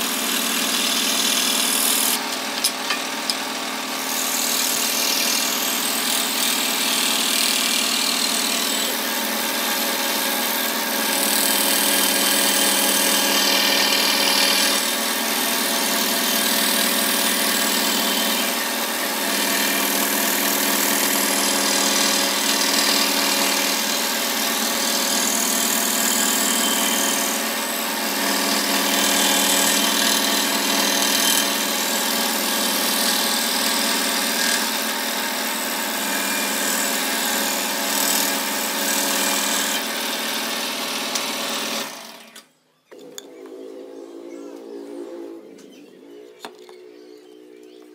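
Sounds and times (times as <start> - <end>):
scroll saw cutting wood: 0.0 - 46.9.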